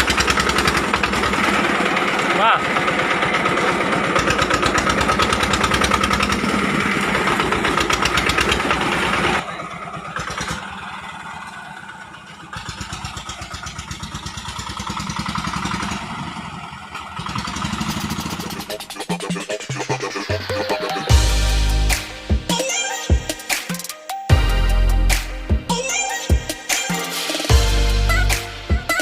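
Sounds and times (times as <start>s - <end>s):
single-cylinder diesel engine running: 0.0s - 23.4s, 24.3s - 29.0s.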